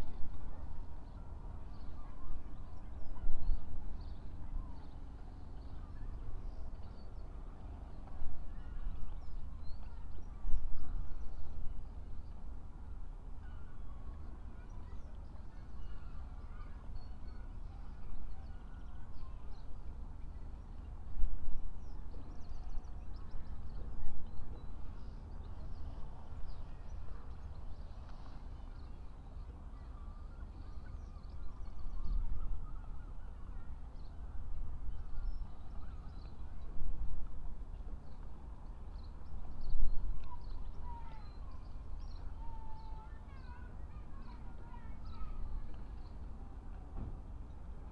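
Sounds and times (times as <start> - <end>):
wind rumble on microphone: 0.0 - 16.4, 17.1 - 29.8, 30.6 - 47.9.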